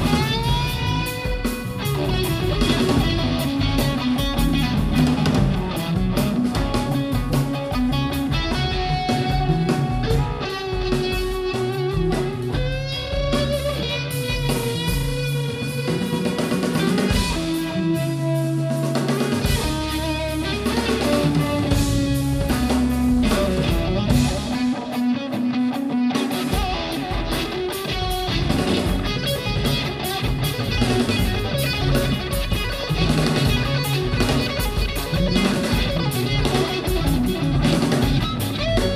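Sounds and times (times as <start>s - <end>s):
bass guitar: 0.0s - 38.9s
drum kit: 0.0s - 38.9s
electric guitar bending long notes: 0.0s - 38.9s.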